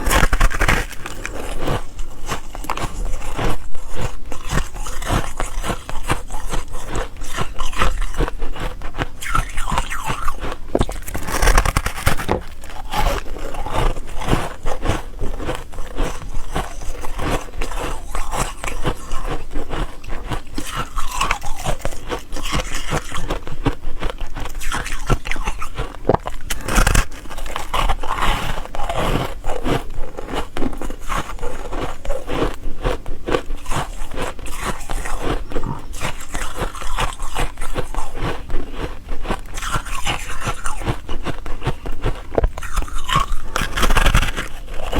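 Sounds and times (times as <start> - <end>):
ice crunching while chewed: 0.0 - 44.9.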